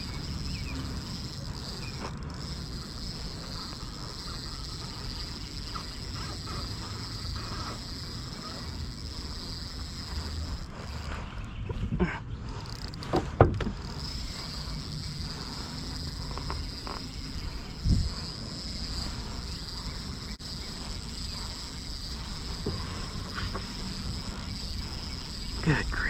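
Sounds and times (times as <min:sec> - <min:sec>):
high-pitched insect chorus: 0:00.0 - 0:11.1, 0:13.8 - 0:26.0.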